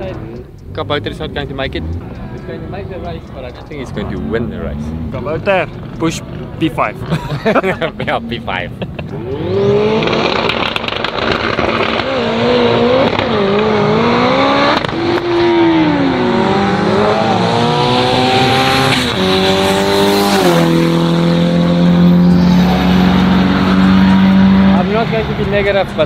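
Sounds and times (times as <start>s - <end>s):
drag racing car engine revving: 0.0s - 26.0s.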